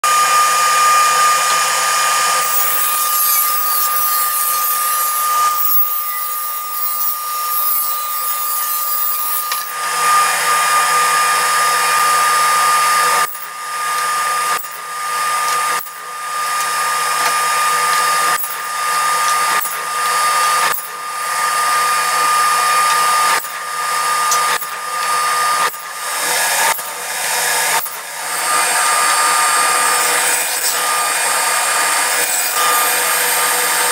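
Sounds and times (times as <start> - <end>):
table saw whining: 0.0 - 33.9.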